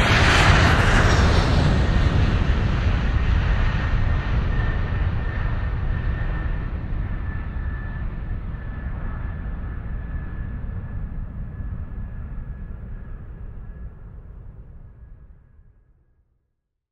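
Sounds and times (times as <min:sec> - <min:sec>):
jet engine rush and whine: 0:00.0 - 0:15.8.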